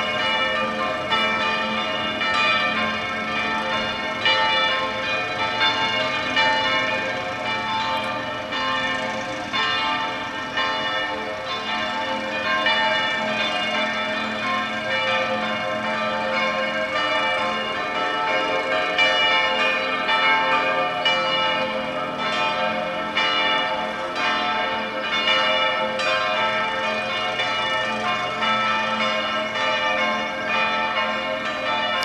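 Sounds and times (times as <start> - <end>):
church bells pealing: 0.0 - 32.0.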